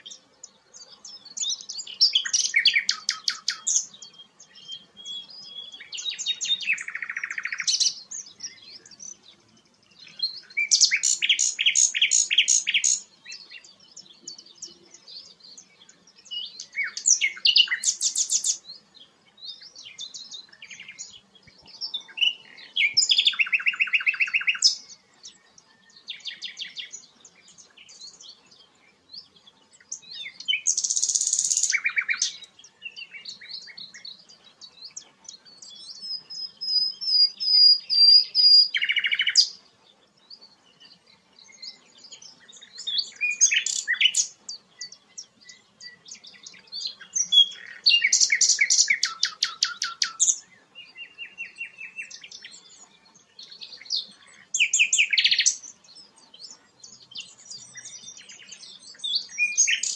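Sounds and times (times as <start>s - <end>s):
songbird singing trills and whistles: 0.0s - 59.9s.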